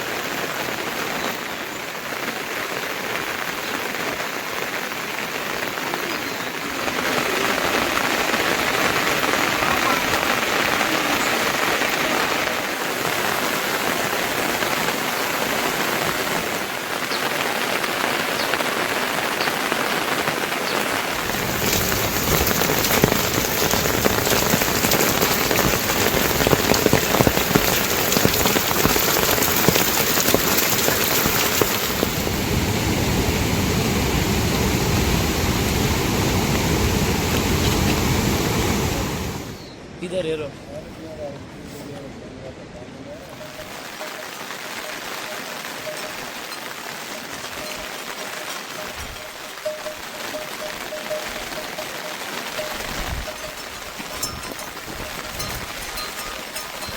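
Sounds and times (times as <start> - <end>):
rain falling: 0.0 - 39.7, 43.2 - 56.9.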